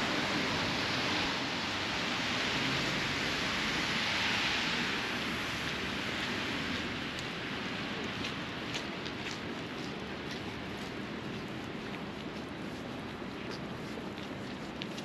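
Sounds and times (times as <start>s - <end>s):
tyres hissing on wet street: 0.0s - 15.0s.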